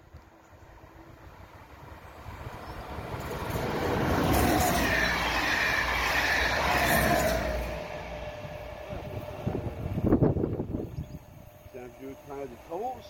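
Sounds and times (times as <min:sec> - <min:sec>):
locomotive hum: 0:00.1 - 0:13.0
train wheels on rails: 0:01.5 - 0:13.0.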